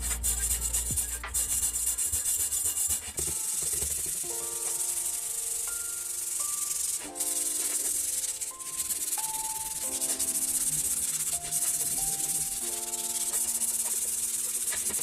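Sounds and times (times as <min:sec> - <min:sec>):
high-pitched rubbing hiss: 0:00.0 - 0:15.0.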